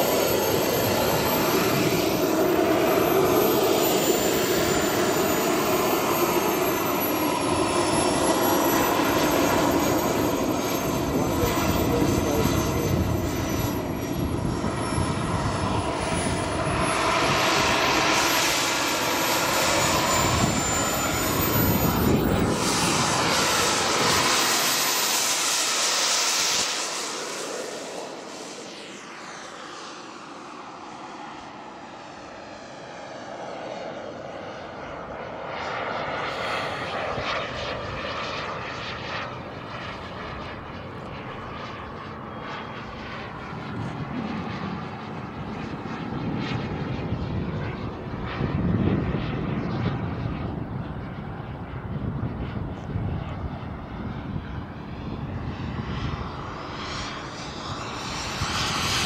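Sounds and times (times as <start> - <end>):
aircraft engine whine: 0.0 - 59.0.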